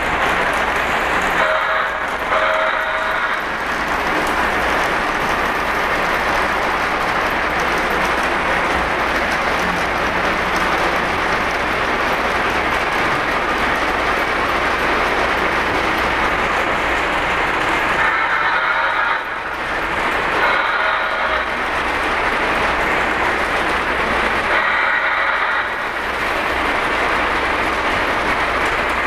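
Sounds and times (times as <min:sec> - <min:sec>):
model train motors: 0:00.0 - 0:29.0
model train wheels rolling on track: 0:00.0 - 0:29.0.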